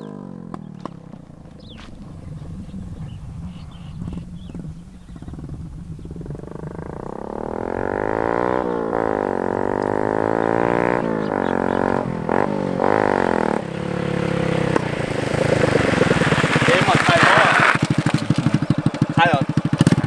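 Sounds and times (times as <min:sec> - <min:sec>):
buzzing exhaust note: 0:00.0 - 0:16.8
motorcycle accelerating: 0:00.0 - 0:20.0.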